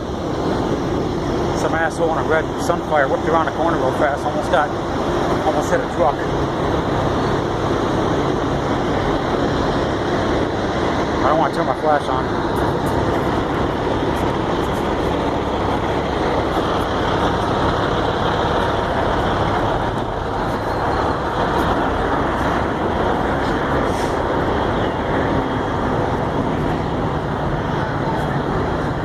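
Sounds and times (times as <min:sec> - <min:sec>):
diesel trucks running: 0:00.0 - 0:29.0
highway traffic: 0:00.0 - 0:29.0.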